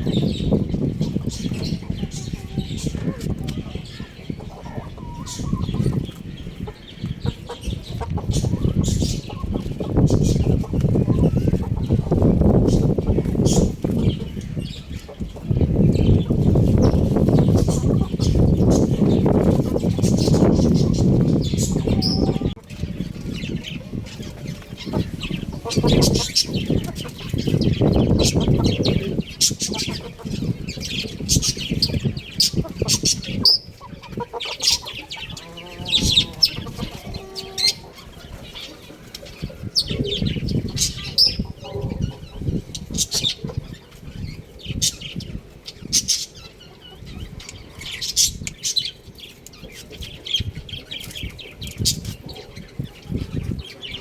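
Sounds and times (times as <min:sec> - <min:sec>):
young chickens peeping: 0:00.0 - 0:54.0.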